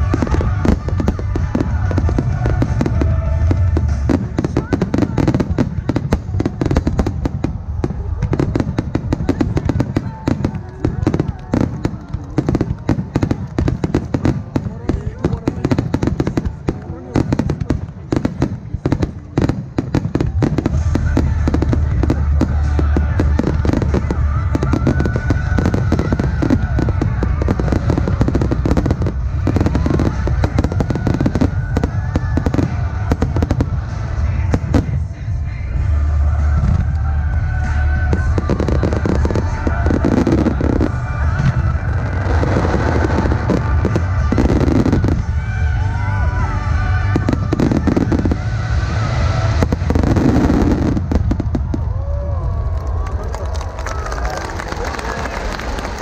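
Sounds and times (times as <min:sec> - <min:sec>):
steady low rumble: 0:00.0 - 0:54.3
fireworks bangs and crackling: 0:00.0 - 0:56.0
music playing: 0:00.0 - 0:56.0.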